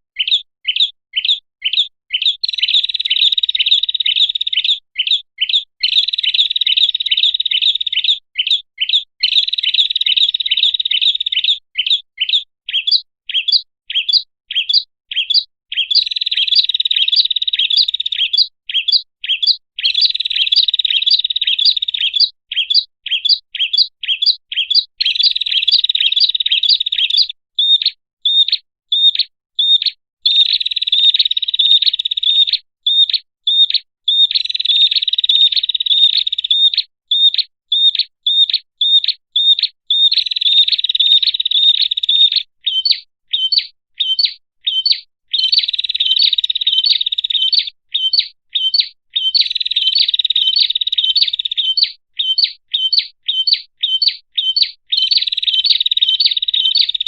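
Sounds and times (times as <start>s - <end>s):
bird song with high chirps: 0.1s - 57.0s.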